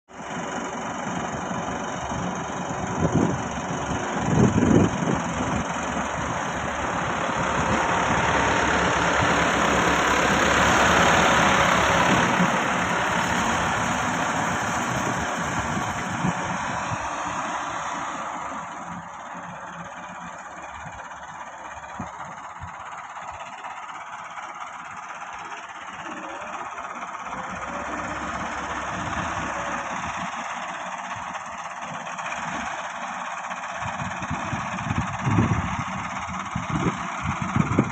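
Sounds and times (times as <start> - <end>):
tractor diesel engine running: 0.1 - 37.9.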